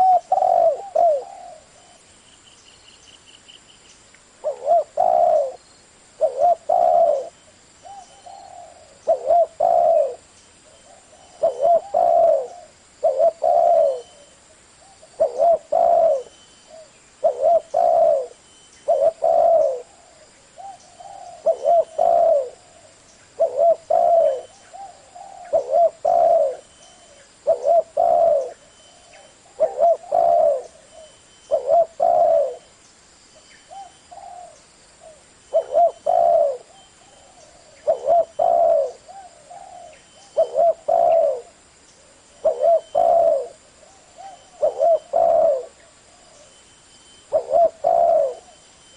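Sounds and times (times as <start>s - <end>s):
dove cooing: 0.0s - 2.1s, 4.4s - 5.6s, 6.2s - 32.8s, 33.7s - 46.6s, 47.2s - 48.9s.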